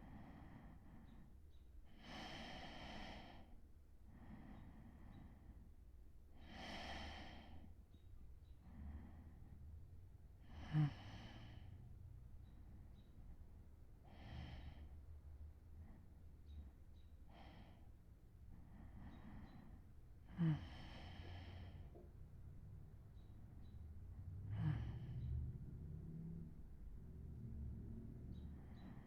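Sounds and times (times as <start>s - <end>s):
man breathing slowly and deeply: 0.0s - 29.0s.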